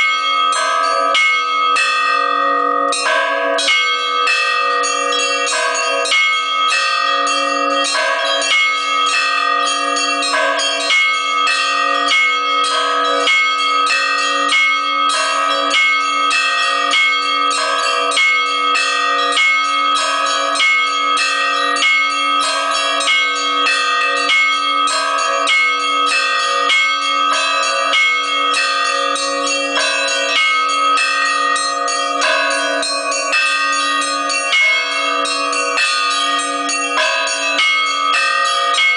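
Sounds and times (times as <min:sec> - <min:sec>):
low bell hum: 0:00.0 - 0:38.9
small church bells ringing: 0:00.0 - 0:38.9.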